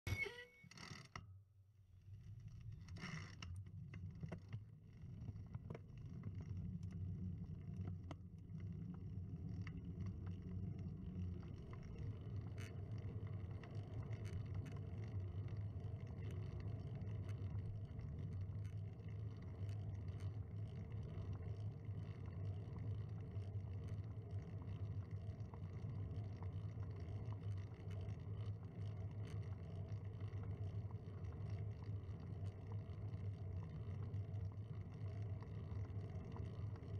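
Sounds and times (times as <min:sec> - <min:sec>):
small clicks and rattles: 0:02.1 - 0:36.9.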